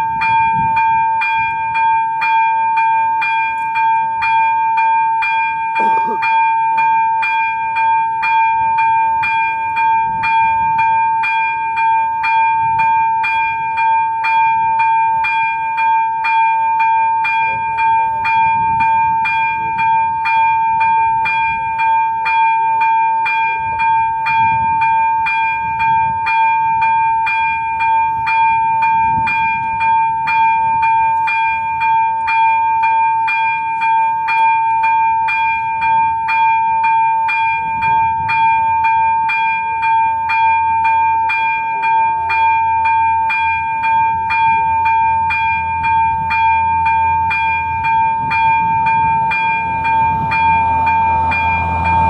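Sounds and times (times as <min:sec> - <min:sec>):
level-crossing warning bell ringing: 0:00.0 - 0:52.0.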